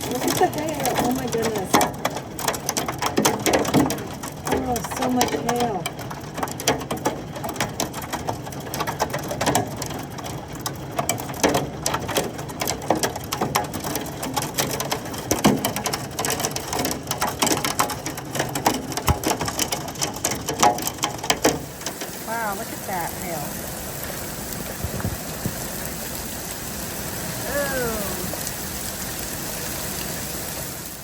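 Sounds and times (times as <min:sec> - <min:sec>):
hail striking hard surfaces: 0:00.0 - 0:31.0.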